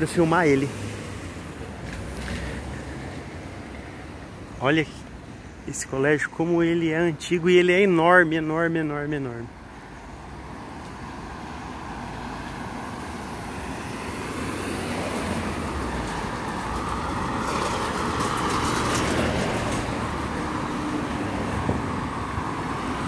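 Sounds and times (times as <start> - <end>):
tyres on the road: 0.0 - 23.0.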